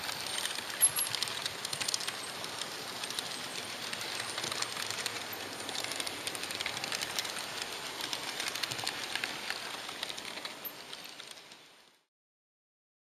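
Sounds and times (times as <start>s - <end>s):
model train rattling on track: 0.0s - 12.0s.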